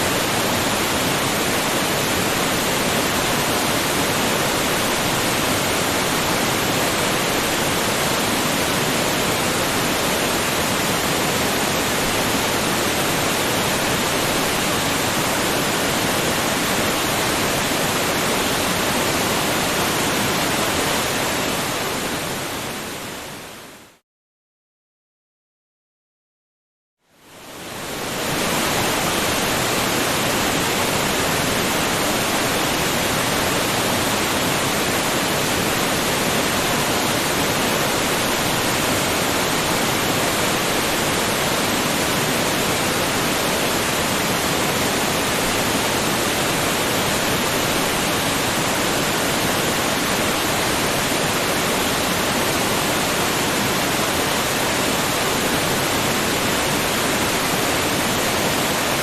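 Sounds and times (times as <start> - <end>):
waterfall rushing: 0.0 - 23.4, 27.5 - 59.0.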